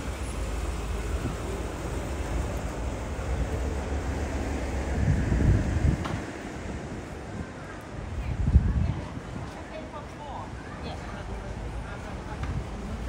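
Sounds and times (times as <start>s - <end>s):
traffic hum: 0.0s - 13.0s
wind rumbling on microphone: 0.0s - 13.0s.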